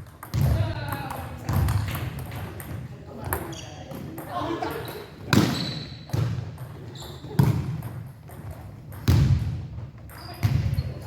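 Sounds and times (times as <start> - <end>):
volleyball hits echoing: 0.0 - 10.9.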